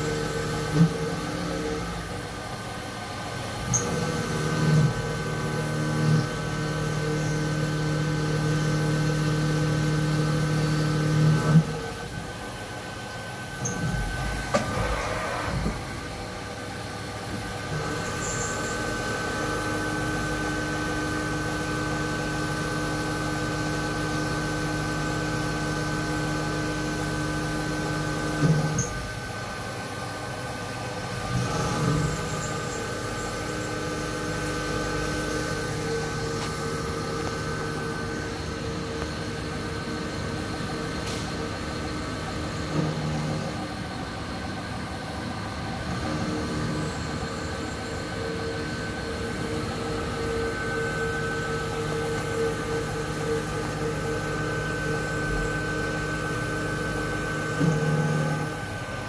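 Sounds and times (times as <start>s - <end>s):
milling machine spindle whine: 0.0s - 59.0s.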